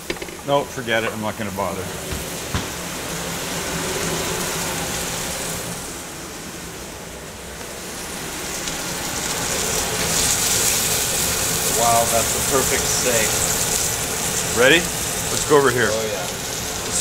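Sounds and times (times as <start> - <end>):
range hood fan hum: 0.0 - 17.0
steak sizzling in skillet: 0.0 - 17.0.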